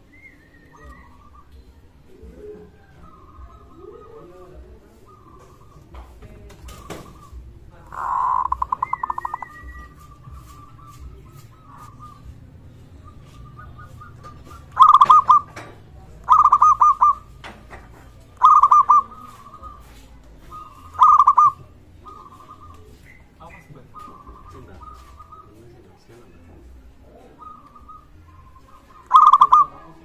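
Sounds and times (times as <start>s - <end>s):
dove trilled cooing: 0.0s - 30.0s.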